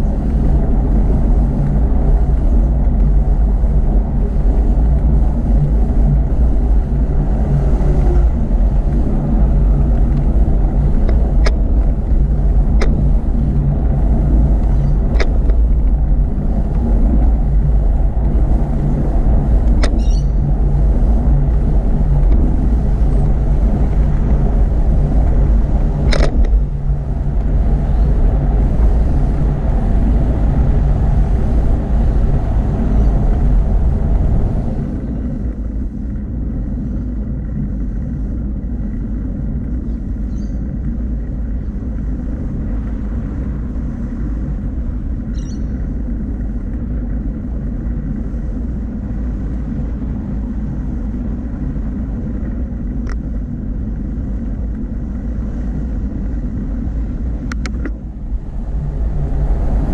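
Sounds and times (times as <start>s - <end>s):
motorway traffic rumble: 0.0s - 59.9s.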